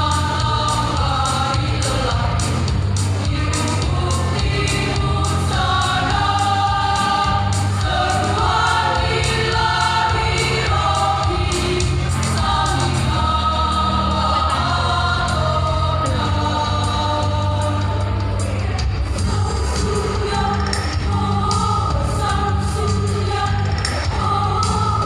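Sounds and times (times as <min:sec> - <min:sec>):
choir singing held notes: 0:00.0 - 0:25.0
low instrumental accompaniment: 0:00.0 - 0:25.0.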